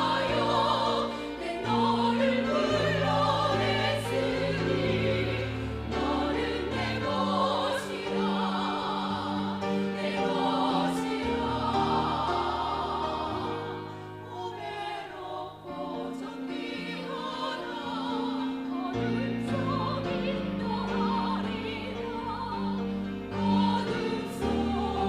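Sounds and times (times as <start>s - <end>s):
choir singing a hymn: 0.0s - 25.0s
sustained instrumental accompaniment: 0.0s - 25.0s.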